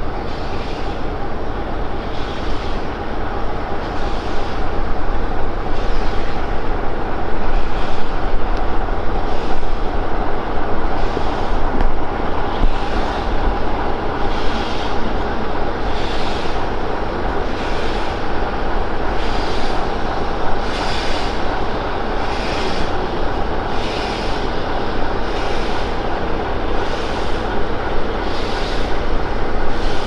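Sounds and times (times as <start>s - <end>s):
steam locomotive exhaust beats: 0.0s - 30.0s.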